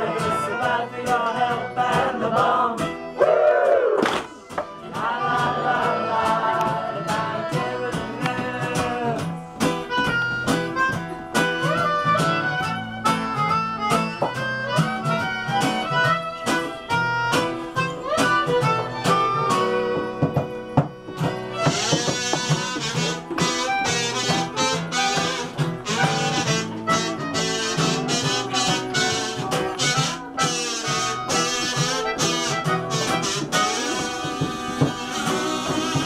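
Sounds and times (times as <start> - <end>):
harmonica melody: 0.0 - 3.4, 4.3 - 36.0
acoustic guitar strumming: 0.0 - 36.0.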